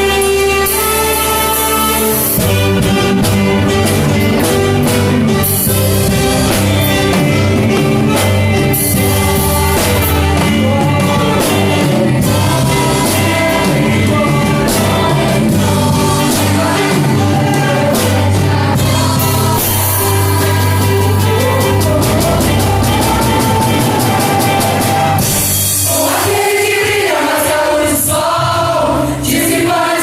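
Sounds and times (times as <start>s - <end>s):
choir singing: 0.0s - 30.0s
church orchestra with strings and drums: 0.0s - 30.0s.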